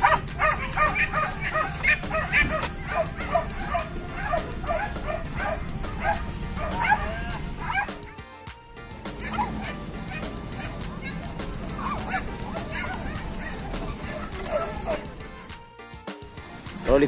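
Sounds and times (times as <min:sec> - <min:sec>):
dogs barking: 0:00.0 - 0:15.7.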